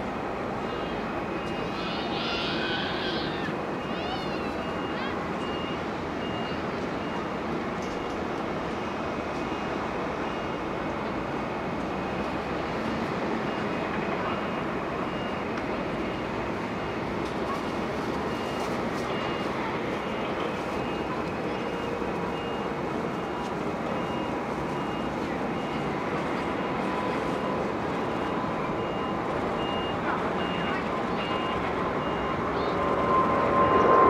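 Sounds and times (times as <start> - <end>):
distant jet engine roar: 0.0 - 34.0
reversing alarm beeps: 0.8 - 10.8, 12.9 - 34.0.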